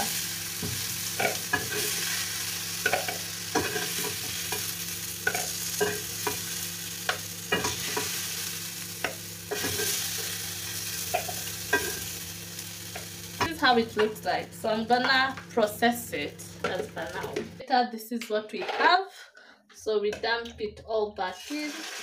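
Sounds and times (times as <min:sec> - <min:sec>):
frying pan sizzling: 0:00.0 - 0:17.6, 0:21.2 - 0:22.0.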